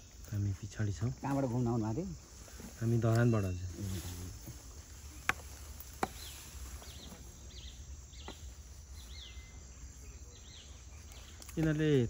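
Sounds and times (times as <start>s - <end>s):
low forest rumble: 0.0s - 12.0s.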